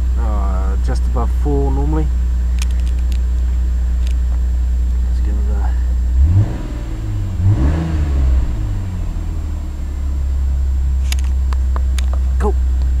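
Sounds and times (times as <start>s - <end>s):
cold engine idling: 0.0s - 13.0s.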